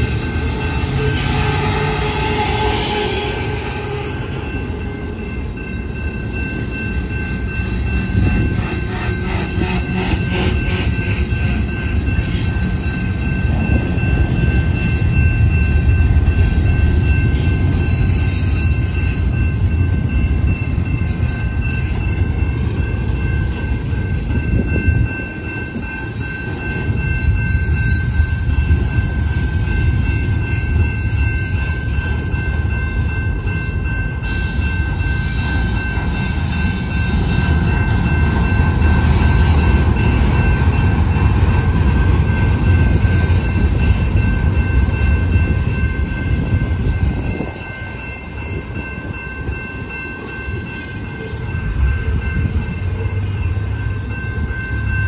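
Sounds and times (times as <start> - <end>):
high ringing tone: 0.0 - 55.0
train wheels rumbling on rails: 0.0 - 55.0.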